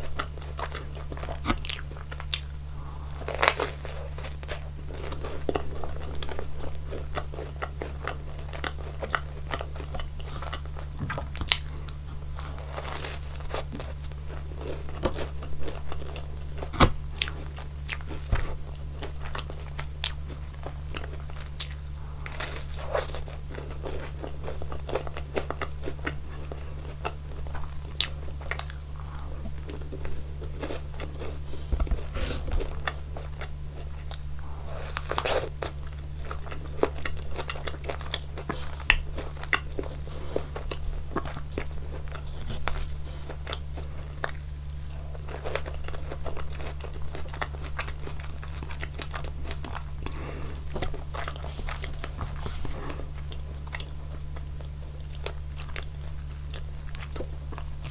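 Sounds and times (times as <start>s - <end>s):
crunching and chewing: 0.0s - 57.9s
steady low hum: 0.0s - 57.9s.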